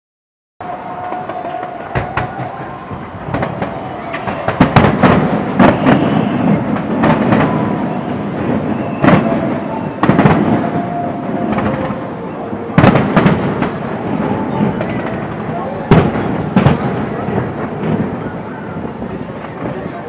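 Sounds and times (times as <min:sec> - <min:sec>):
fireworks bangs and crackles: 0:00.6 - 0:20.0.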